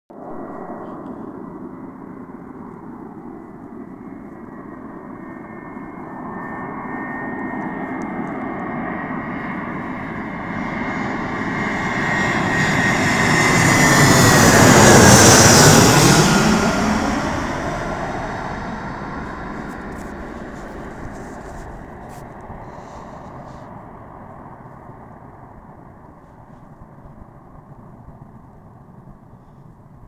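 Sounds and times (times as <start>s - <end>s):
jet engines whining: 0.2s - 25.0s.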